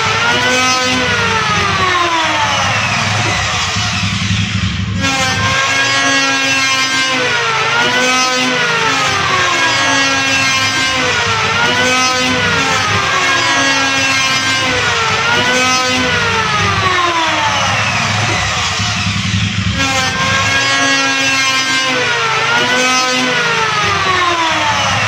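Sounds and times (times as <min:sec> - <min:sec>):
electric hand planer whine: 0:00.0 - 0:25.0.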